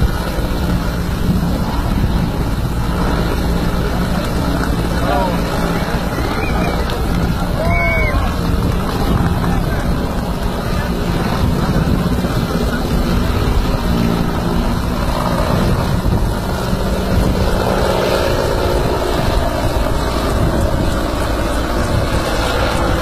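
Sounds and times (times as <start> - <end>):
helicopter rotors and engines: 0.0 - 23.0.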